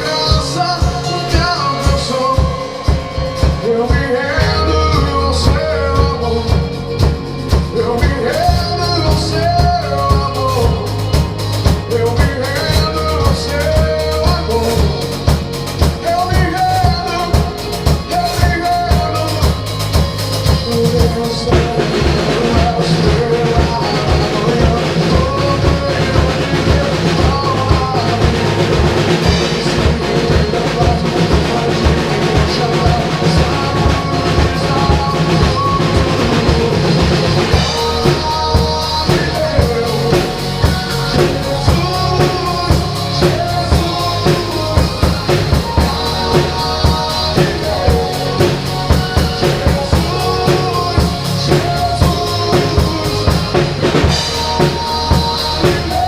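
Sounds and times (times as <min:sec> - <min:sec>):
drum kit playing: 0:00.0 - 0:56.0
recorded worship music: 0:00.0 - 0:56.0.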